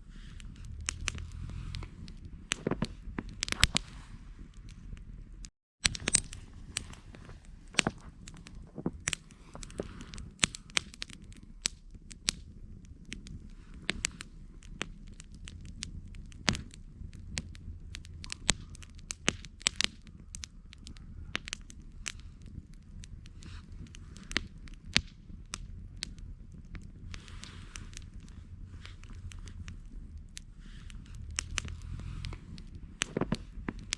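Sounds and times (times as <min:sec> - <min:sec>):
campfire crackling and popping: 0:00.0 - 0:33.9
low steady rumble: 0:00.0 - 0:33.9.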